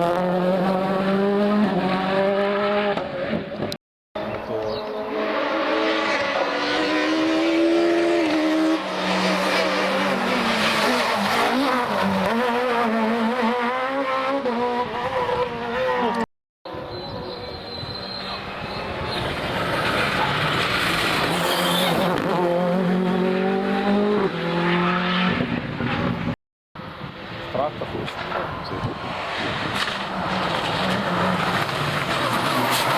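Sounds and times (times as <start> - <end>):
rally car engines revving: 0.0 - 16.3, 16.9 - 32.9
tyre and road noise: 0.0 - 32.9.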